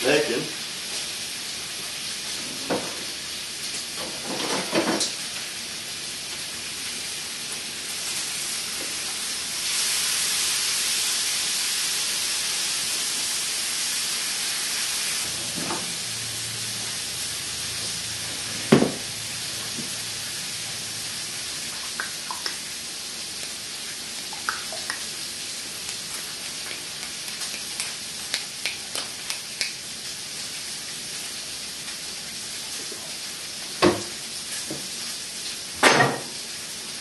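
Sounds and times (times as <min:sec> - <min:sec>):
bacon sizzling in a frying pan: 0:00.0 - 0:37.0.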